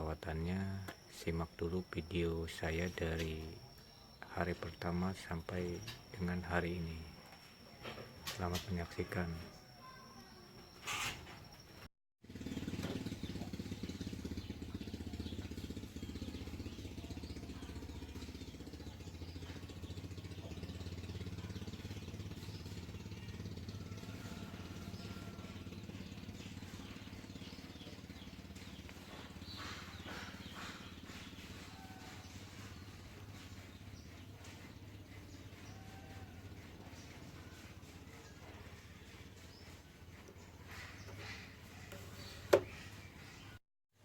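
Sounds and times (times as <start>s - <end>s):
low mechanical engine hum: 0.0s - 10.8s, 11.5s - 43.6s.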